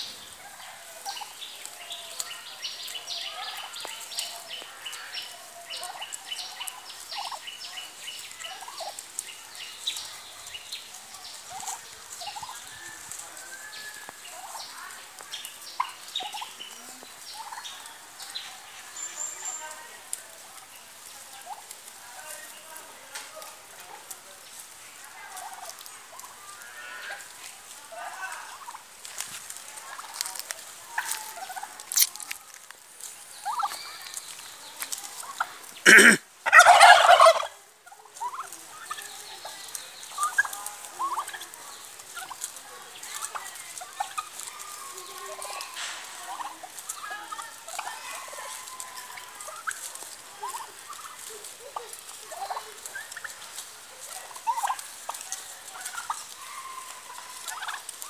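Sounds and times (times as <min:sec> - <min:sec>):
turkey gobble: 0:00.0 - 0:19.1, 0:24.5 - 0:29.2, 0:29.8 - 0:32.2, 0:33.4 - 0:58.0
turkeys yelping and clucking: 0:00.0 - 0:22.6, 0:23.2 - 0:58.0.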